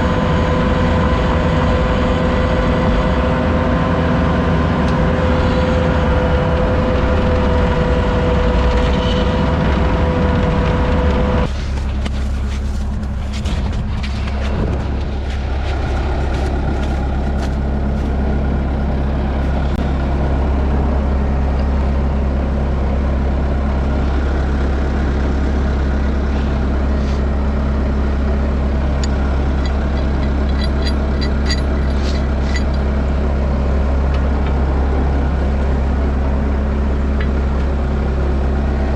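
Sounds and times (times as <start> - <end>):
high steady whine: 0.0 - 38.9
truck engine running: 0.0 - 38.9.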